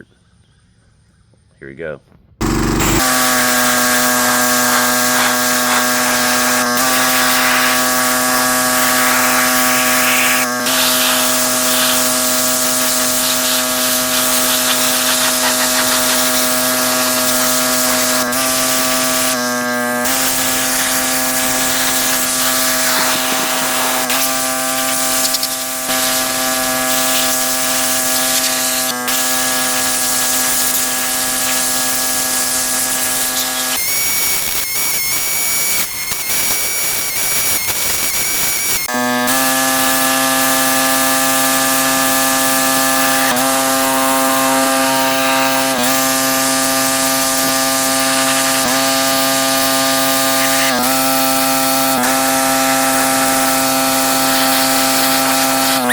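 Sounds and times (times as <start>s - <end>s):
spray jet hissing: 2.4s - 33.7s, 39.3s - 55.9s
pressure washer motor humming: 2.4s - 34.6s, 37.8s - 55.9s.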